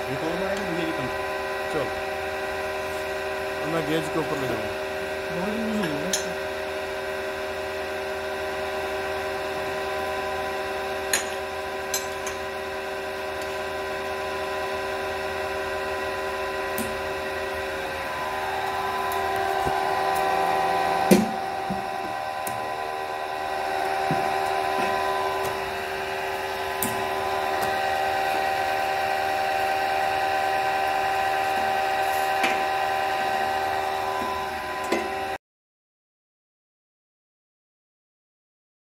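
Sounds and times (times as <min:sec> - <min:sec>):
hydraulic pump motor whine: 0:00.0 - 0:35.4.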